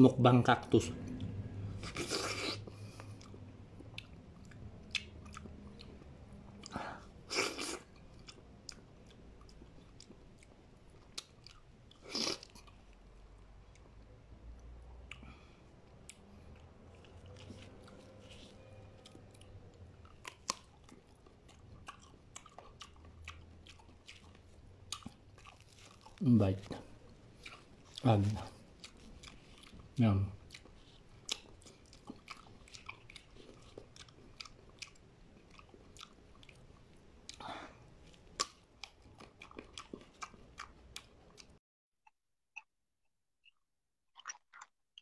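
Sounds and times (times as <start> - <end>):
chewing fruit with crunchy seeds: 0.8 - 41.6, 43.4 - 45.0.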